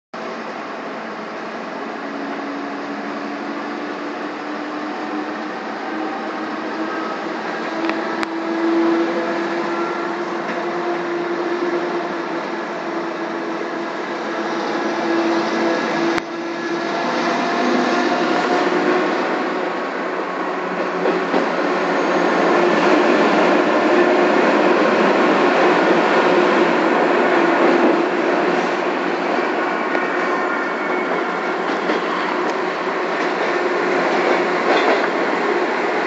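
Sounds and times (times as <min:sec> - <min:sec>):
train wheels rumbling on rails: 0:00.2 - 0:36.0.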